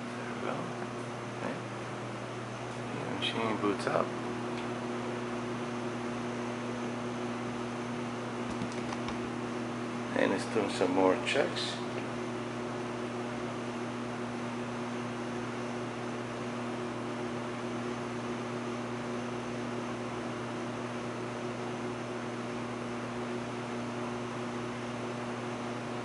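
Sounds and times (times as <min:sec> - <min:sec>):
cooling fans whirring: 0:00.0 - 0:26.0
low electrical hum: 0:00.0 - 0:26.0.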